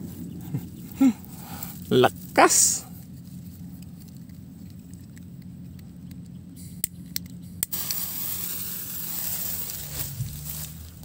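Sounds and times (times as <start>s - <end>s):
grass rustling underfoot: 0.0s - 5.7s, 7.7s - 11.0s
low steady hum: 0.0s - 11.0s.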